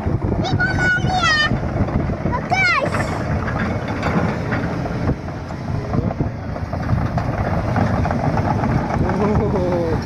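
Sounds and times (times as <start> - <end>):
diesel machinery engine running: 0.0 - 10.0
wind noise on microphone: 0.0 - 10.0.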